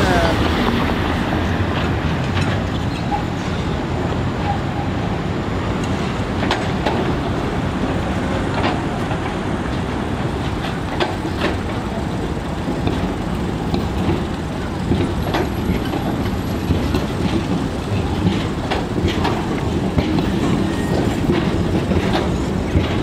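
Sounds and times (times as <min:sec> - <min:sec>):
wheels clicking over rail joints: 0:00.0 - 0:05.1, 0:05.7 - 0:23.0
car traffic: 0:00.0 - 0:23.0
tram wheels rumbling on rails: 0:00.0 - 0:23.0.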